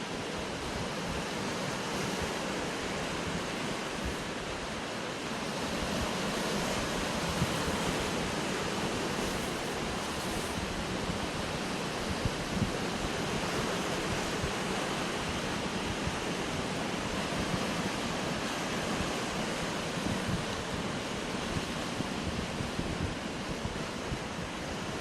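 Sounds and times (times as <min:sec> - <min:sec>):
surf washing against rocks: 0:00.0 - 0:25.0
wind rumble on microphone: 0:00.1 - 0:25.0.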